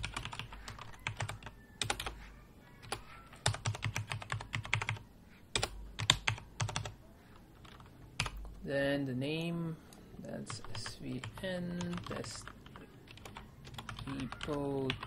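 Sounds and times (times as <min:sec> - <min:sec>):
keyboard typing: 0:00.0 - 0:08.6, 0:10.5 - 0:15.0.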